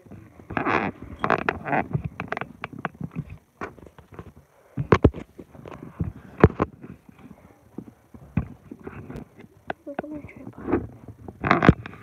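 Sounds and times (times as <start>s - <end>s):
knocks and thumps: 0.1s - 12.0s.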